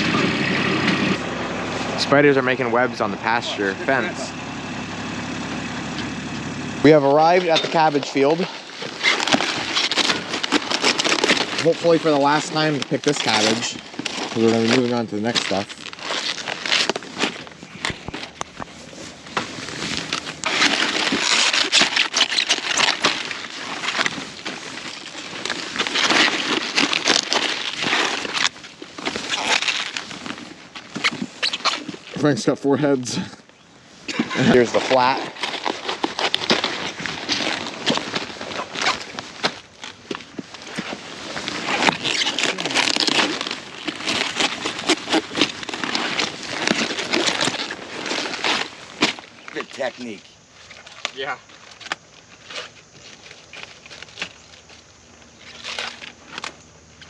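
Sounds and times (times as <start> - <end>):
cabbage leaves cracking and rustling: 6.8 - 57.0.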